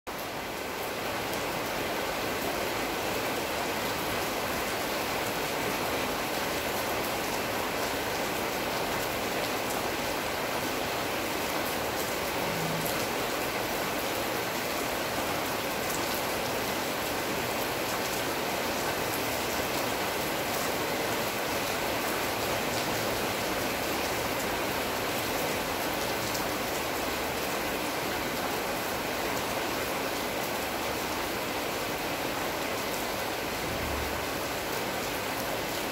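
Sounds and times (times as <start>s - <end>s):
steady rain on leaves: 0.1s - 35.9s.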